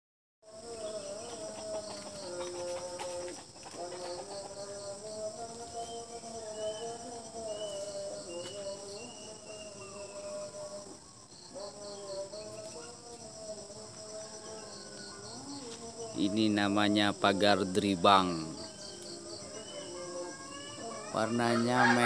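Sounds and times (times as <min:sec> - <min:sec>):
insects chirring: 0:00.4 - 0:22.0.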